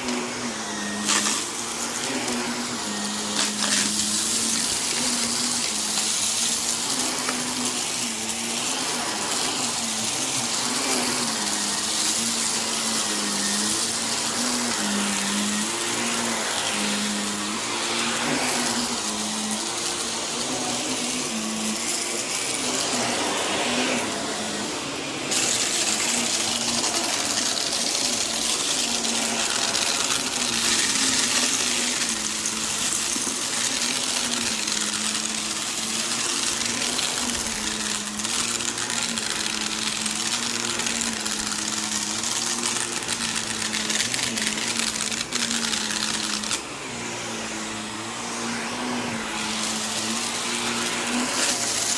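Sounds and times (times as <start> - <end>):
vacuum cleaner running over rug: 0.0 - 51.9.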